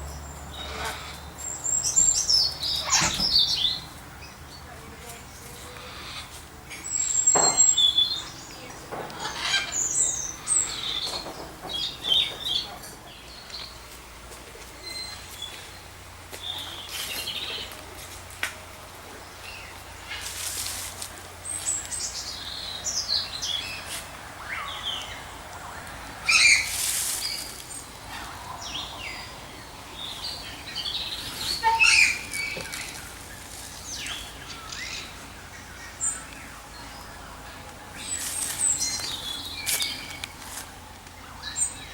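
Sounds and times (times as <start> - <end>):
aviary birds chirping and whistling: 0.0 - 13.9, 14.7 - 17.9, 19.1 - 41.9
harsh bird calls: 0.0 - 13.9, 21.3 - 41.9.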